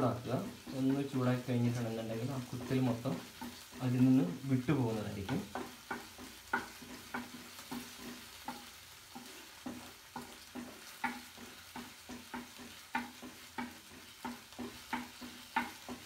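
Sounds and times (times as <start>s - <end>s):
faint sizzle: 0.0s - 16.0s
spatula knocking in frying pan: 0.0s - 16.0s.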